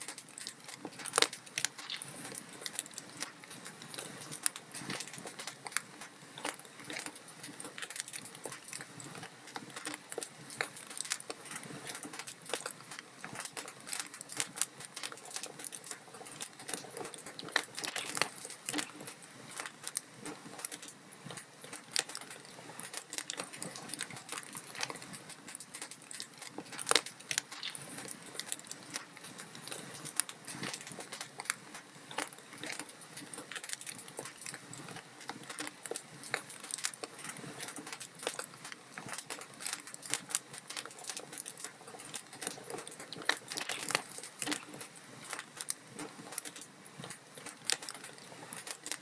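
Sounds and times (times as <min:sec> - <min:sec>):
log fire crackling: 0:00.0 - 0:49.0.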